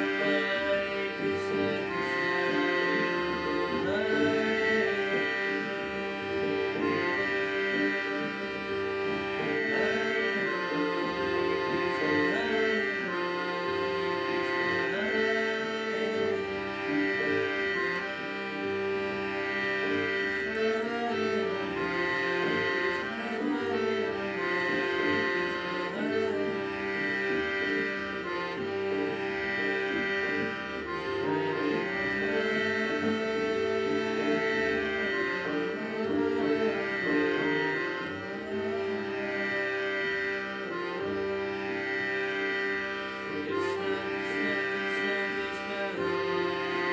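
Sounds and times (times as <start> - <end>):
harmonium melody over drone: 0.0 - 46.9.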